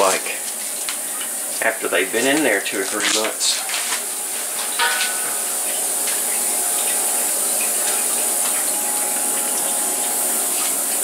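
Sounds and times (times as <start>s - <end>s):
coolant running and trickling: 0.0s - 11.0s
faint steady hum: 0.0s - 11.0s.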